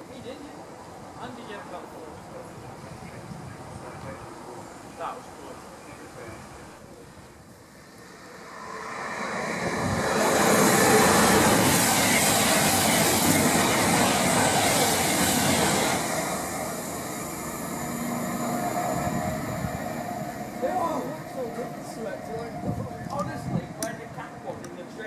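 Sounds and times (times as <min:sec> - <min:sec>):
diesel train passing fast: 0:00.0 - 0:25.0.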